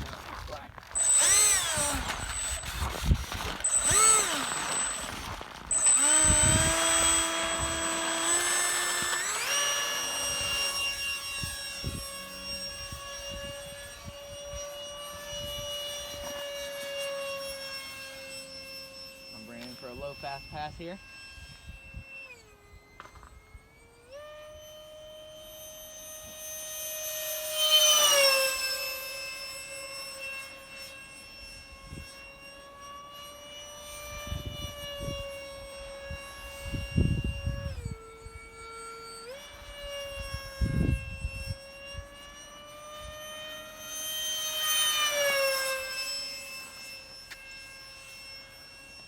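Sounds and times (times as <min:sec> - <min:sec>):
model jet fan whining: 0:00.0 - 0:49.0.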